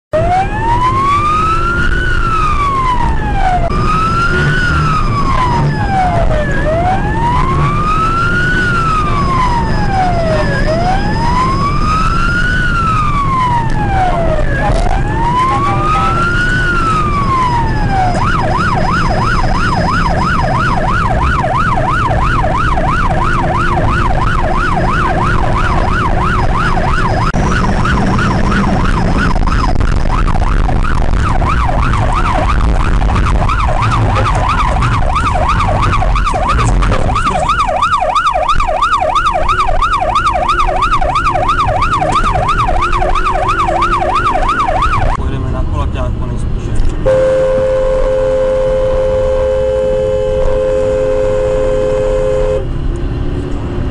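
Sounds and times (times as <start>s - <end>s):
car engine and road noise: 0.1s - 53.9s
police siren wailing and yelping: 0.2s - 45.2s, 47.1s - 52.6s.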